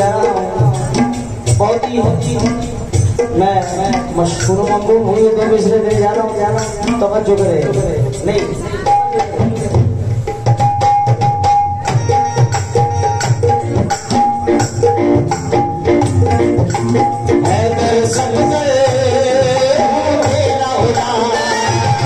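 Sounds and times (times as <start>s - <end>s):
hand drum rhythm: 0.0s - 22.0s
harmonium melody: 0.0s - 22.0s.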